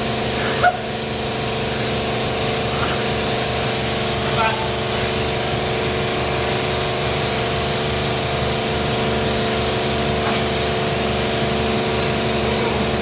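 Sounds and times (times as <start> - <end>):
wash pump humming: 0.0 - 13.0
water jet hissing: 0.0 - 13.0.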